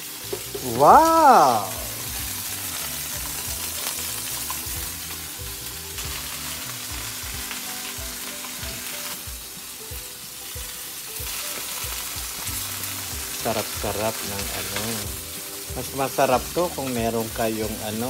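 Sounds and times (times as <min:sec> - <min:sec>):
chicken sizzling in grill pan: 0:00.0 - 0:18.0.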